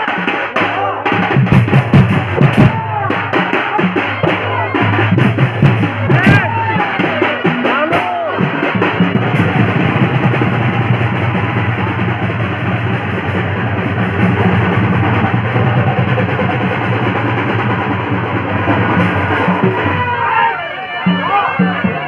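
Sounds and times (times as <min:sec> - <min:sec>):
barrel drum beating: 0:00.0 - 0:20.4
live folk music: 0:00.0 - 0:22.0.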